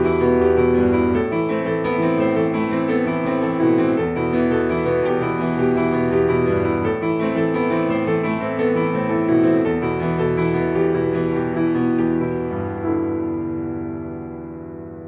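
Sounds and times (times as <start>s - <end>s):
instrumental keyboard music: 0.0s - 15.0s.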